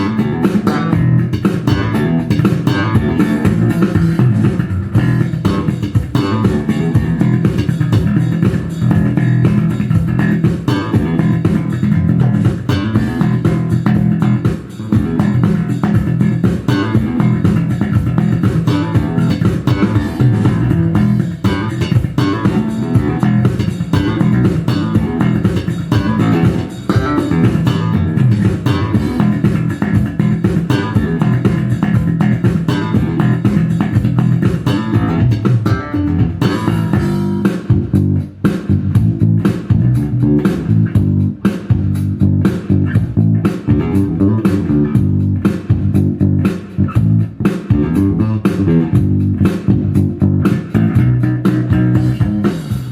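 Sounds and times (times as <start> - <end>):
slap electric bass: 0.0 - 52.9.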